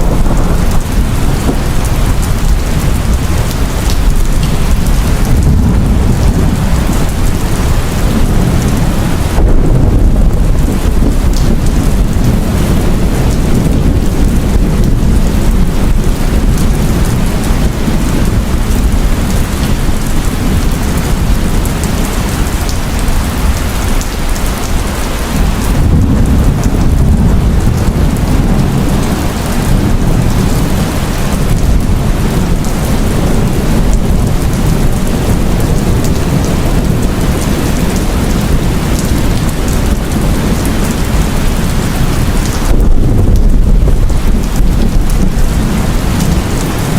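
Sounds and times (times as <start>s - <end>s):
deep rumble of thunder: 0.0s - 46.9s
heavy rain falling: 0.0s - 46.9s.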